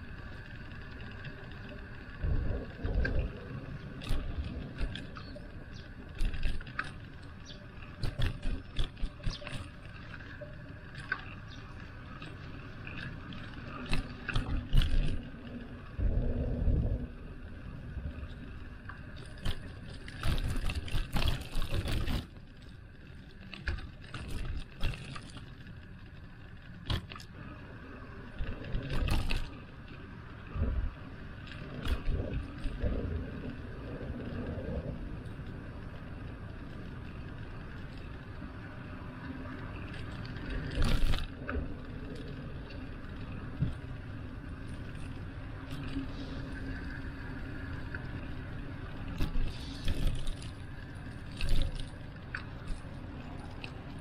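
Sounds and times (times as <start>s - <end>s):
wind and road rumble on microphone: 0.0s - 54.0s.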